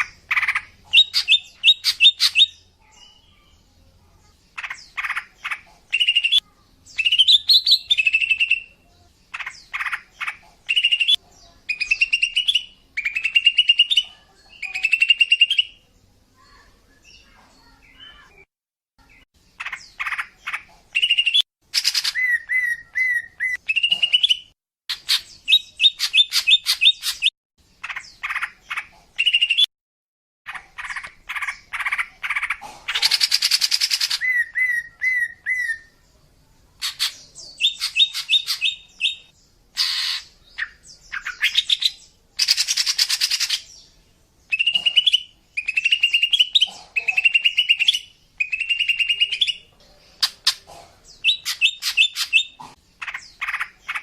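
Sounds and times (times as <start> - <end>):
bird chirping and trilling: 0.0 - 3.7, 4.4 - 29.7, 30.5 - 54.0.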